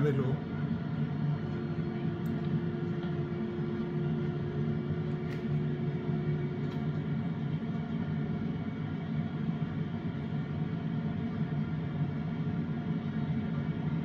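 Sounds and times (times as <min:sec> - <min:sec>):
jet engines and airflow rumble: 0:00.0 - 0:14.0.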